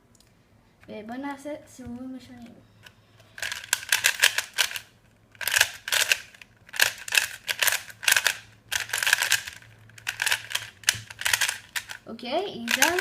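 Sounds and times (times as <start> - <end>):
plastic puzzle cube clacking: 1.9 - 12.0, 12.7 - 13.0.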